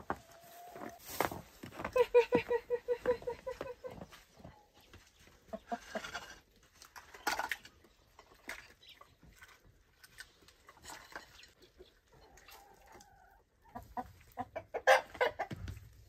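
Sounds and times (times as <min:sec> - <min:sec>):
chickens clucking: 0:01.8 - 0:09.4, 0:10.6 - 0:15.9.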